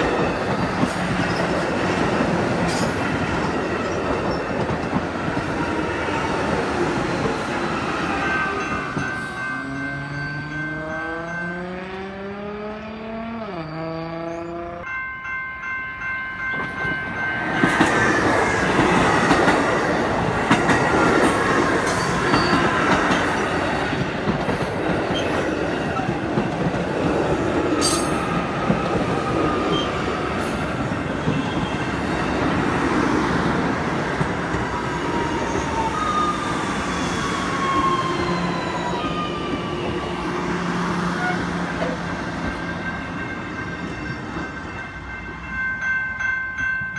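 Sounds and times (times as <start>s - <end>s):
train wheels clattering on rails: 0.0s - 12.1s, 16.4s - 46.9s.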